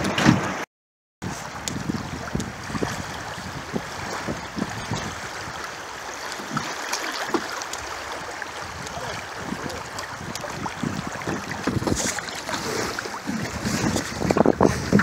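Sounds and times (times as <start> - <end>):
creek water rushing: 1.3 - 15.0.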